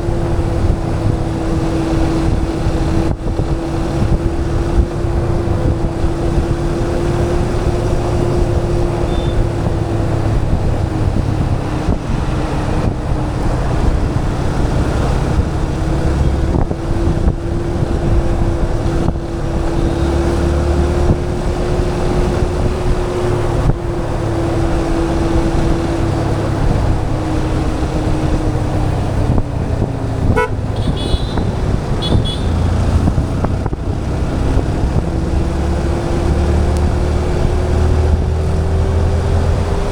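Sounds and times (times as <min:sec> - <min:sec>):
motorcycle engine drone: 0:00.0 - 0:39.9
road rumble: 0:00.0 - 0:39.9.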